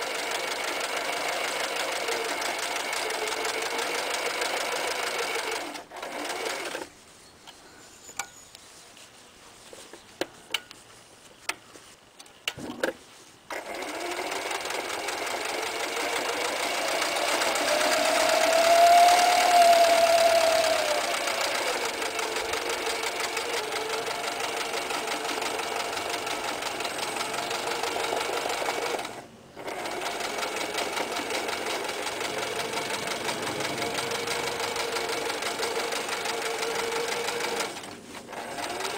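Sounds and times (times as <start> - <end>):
sewing machine stitching: 0.0 - 6.9, 13.5 - 38.9.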